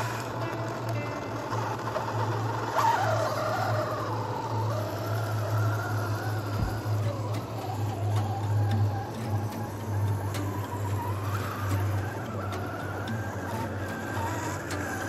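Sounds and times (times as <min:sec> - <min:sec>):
steady low hum: 0:00.0 - 0:15.0
toy truck motor whining: 0:00.0 - 0:15.0.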